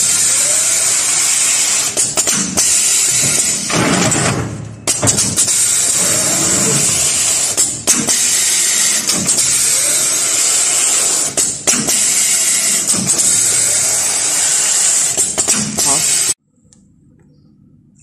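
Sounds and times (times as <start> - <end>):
air cylinders clacking: 0.8 - 16.4.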